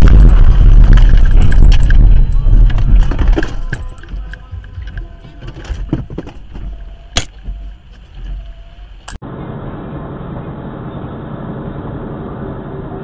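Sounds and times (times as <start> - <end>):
low rumble: 0.0 - 13.0
truck engine and road noise: 0.0 - 13.0.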